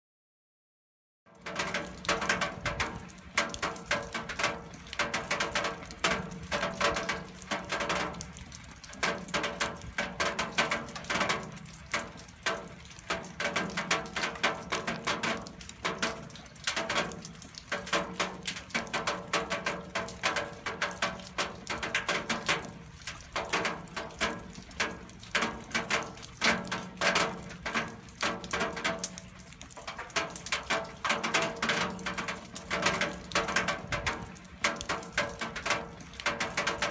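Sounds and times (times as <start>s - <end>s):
rainwater dripping onto metal: 1.3s - 36.9s.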